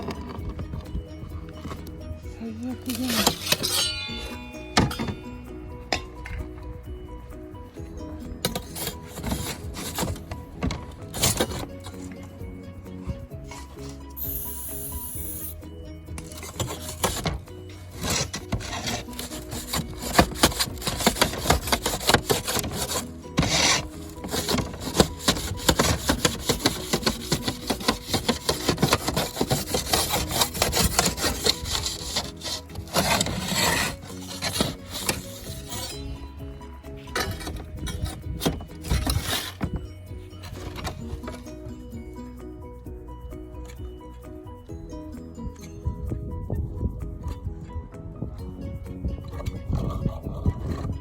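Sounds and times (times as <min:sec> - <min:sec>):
hand tool scraping roofing: 0:00.0 - 0:06.7, 0:07.8 - 0:41.8, 0:49.3 - 0:51.0
faint background music: 0:00.0 - 0:51.0.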